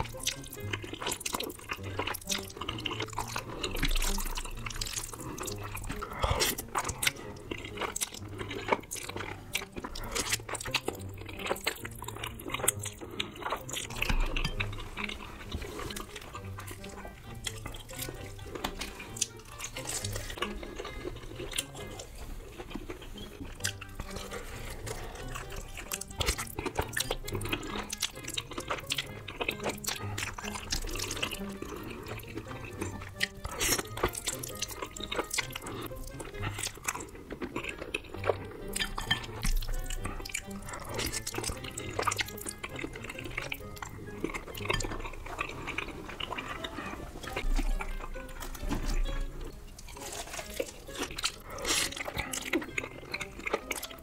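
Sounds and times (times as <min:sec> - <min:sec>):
soft background music: 0:00.0 - 0:54.0
wet chewing and slurping: 0:00.0 - 0:54.0.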